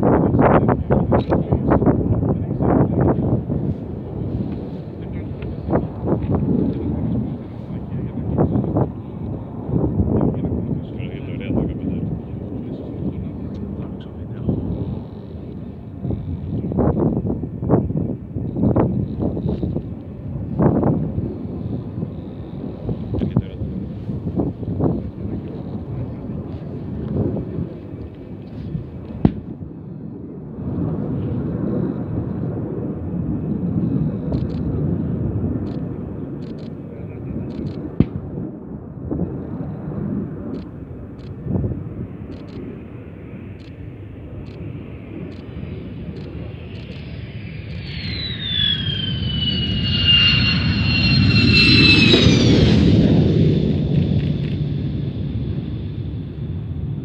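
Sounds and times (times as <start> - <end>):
distant military jet rumble: 0.0 - 57.0.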